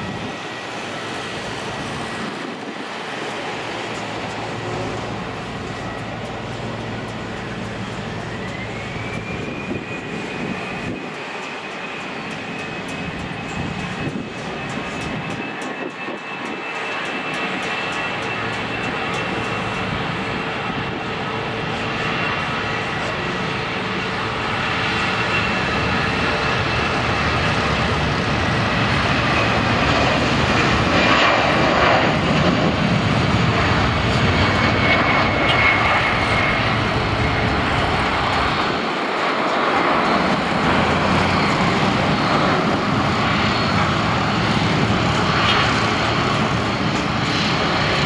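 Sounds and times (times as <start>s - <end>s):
jet engine roar: 0.0s - 48.0s.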